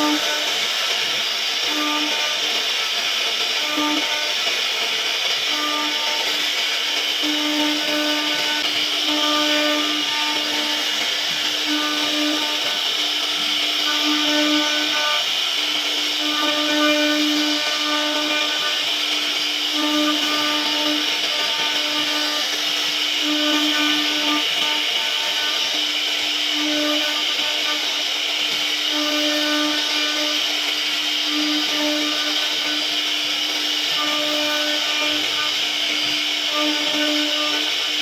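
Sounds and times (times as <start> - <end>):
cnc router spindle whine: 0.0 - 38.0
lower cutting tone: 0.0 - 38.0.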